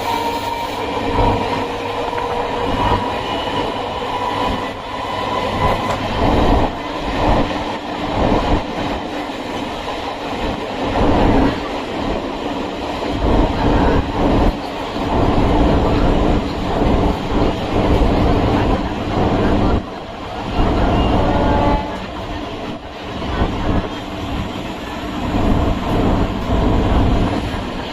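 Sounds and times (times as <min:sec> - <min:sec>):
electric train on track: 0:00.0 - 0:27.9.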